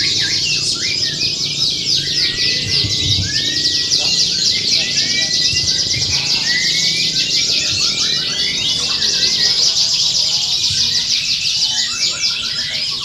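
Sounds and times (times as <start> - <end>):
canaries singing: 0.0 - 13.0.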